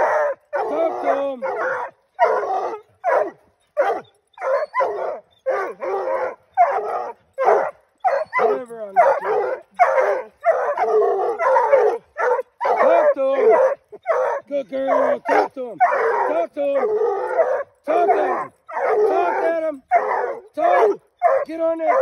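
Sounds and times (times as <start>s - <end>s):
hound bawling: 0.0s - 22.0s
hounds barking: 0.0s - 22.0s.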